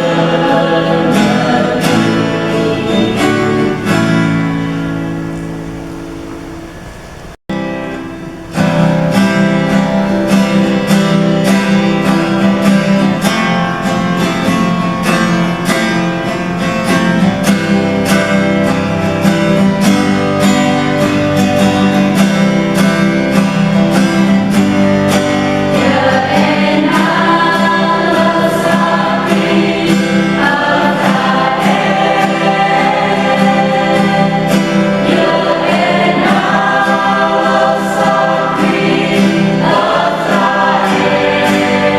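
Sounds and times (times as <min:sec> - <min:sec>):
choir singing: 0:00.0 - 0:05.5, 0:08.0 - 0:41.9.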